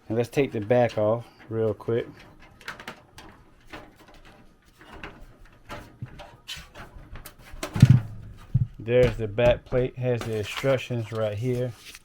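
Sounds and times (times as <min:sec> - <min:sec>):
computer case panel clicks and scrapes: 0:00.4 - 0:11.6.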